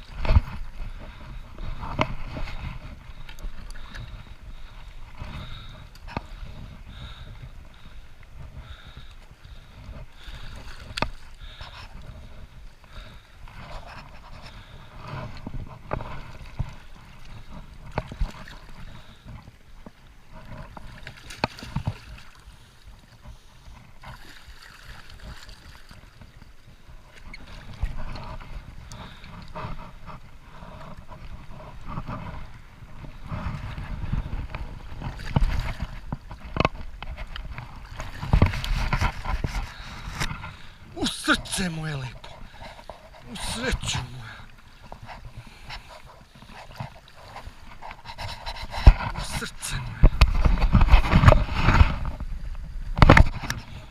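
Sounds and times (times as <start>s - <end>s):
water lapping against hull: 0.0s - 53.9s.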